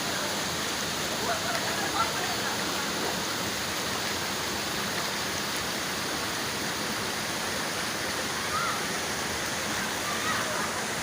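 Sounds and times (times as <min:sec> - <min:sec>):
small waterfall splashing: 0:00.0 - 0:11.0.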